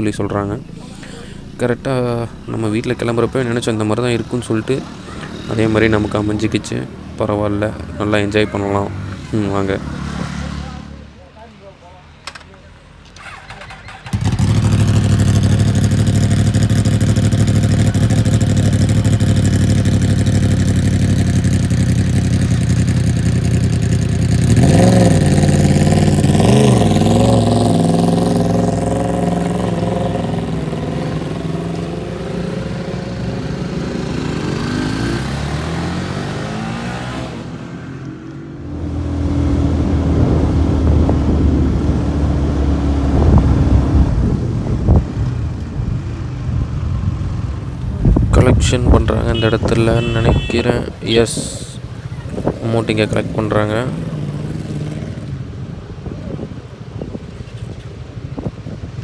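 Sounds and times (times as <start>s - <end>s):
motorcycle engine revving: 0.0s - 11.2s, 13.2s - 45.1s, 47.6s - 55.5s.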